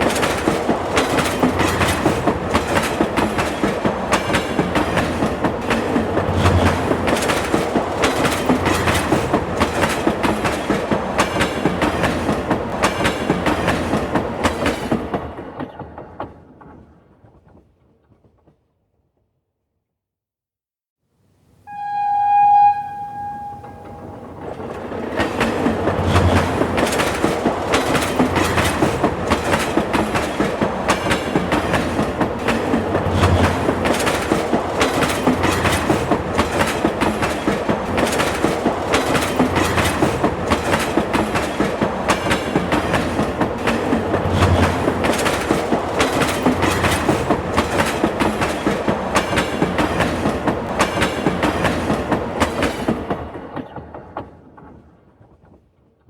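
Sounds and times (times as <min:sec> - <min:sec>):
train rumble: 0:00.0 - 0:17.6, 0:21.7 - 0:55.8
train wheels clickety-clack: 0:00.0 - 0:18.6, 0:23.4 - 0:56.0.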